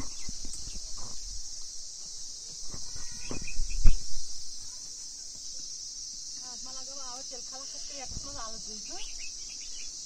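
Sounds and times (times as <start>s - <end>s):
crickets chirring: 0.0s - 10.0s.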